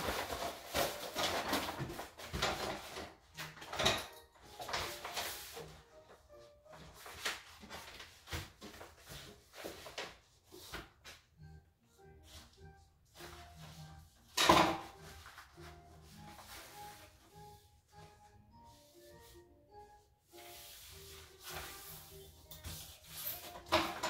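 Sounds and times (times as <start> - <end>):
contact paper rustling and crackling: 0.0 - 11.3, 13.2 - 19.4, 20.2 - 24.0
faint music: 0.0 - 24.0.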